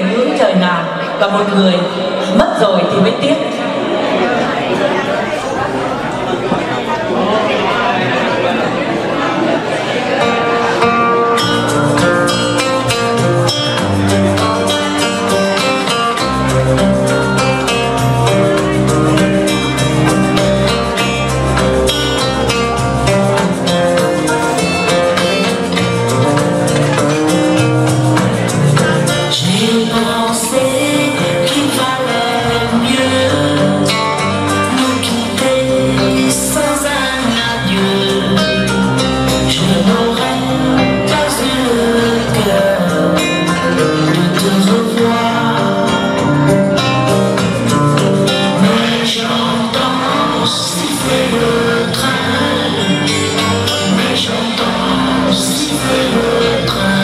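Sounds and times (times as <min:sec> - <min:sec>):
electronic keyboard ballad: 0:00.0 - 0:57.0.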